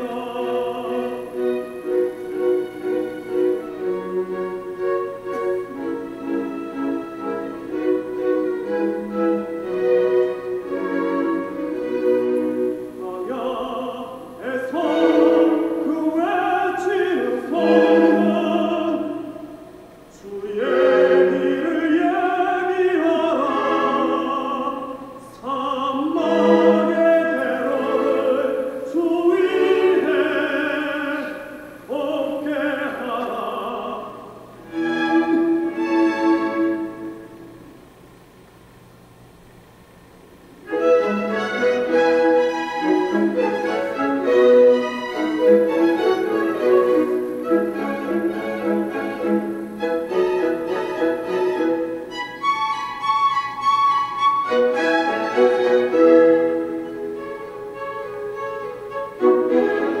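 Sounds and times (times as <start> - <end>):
orchestral accompaniment: 0.0 - 24.9, 25.6 - 31.3, 34.6 - 37.8, 40.6 - 60.0
operatic singing: 0.0 - 37.4, 40.7 - 53.0, 54.5 - 60.0.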